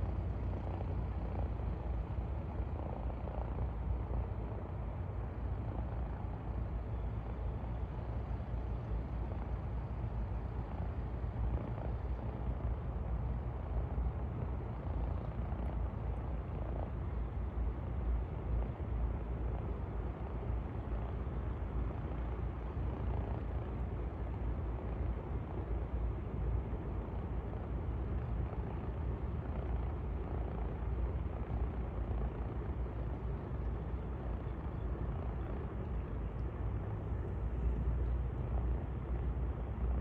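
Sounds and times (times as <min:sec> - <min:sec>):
plane engines droning: 0:00.0 - 0:40.0.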